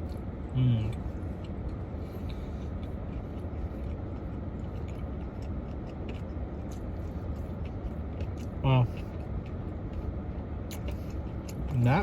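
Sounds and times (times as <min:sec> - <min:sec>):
low hum: 0:00.0 - 0:12.0
person chewing: 0:00.0 - 0:12.0.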